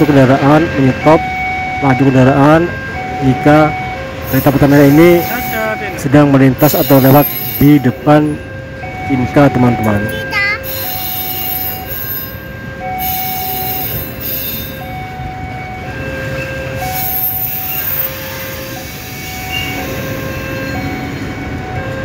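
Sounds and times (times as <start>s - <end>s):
train rumbling past: 0.0s - 22.0s.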